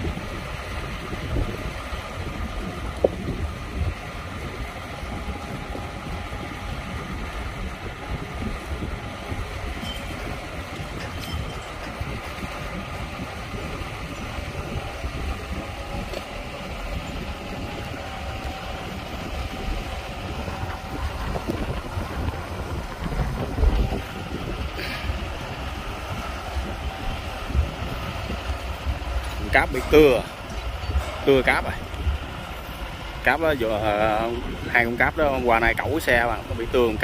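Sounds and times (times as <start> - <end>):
diesel engines of heavy machinery: 0.0 - 37.0.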